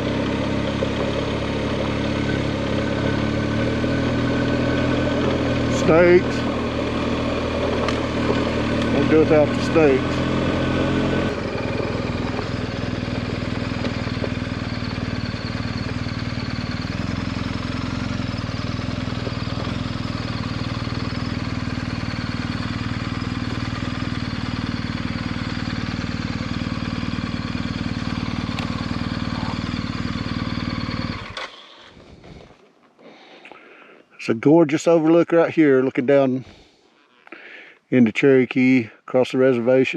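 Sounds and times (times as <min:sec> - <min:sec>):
motorcycle engine running: 0:00.0 - 0:32.7.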